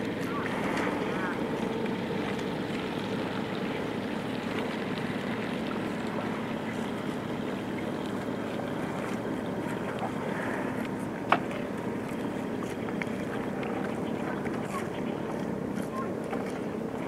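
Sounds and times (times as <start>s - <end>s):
boat motor droning: 0.0s - 17.0s.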